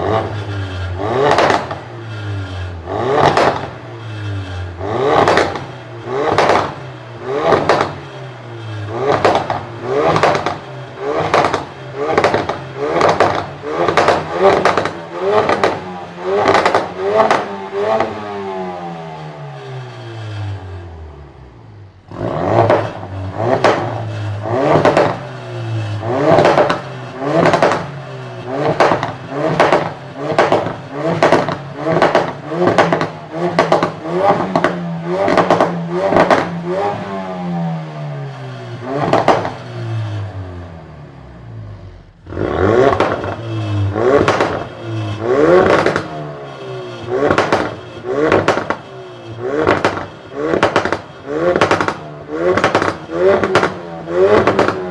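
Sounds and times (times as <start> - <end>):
exhaust crackles and pops: 0.0 - 1.9, 2.5 - 3.8, 5.1 - 8.1, 8.8 - 18.3, 22.1 - 37.2, 38.9 - 40.4, 42.2 - 54.9
car engine revving: 0.0 - 54.9.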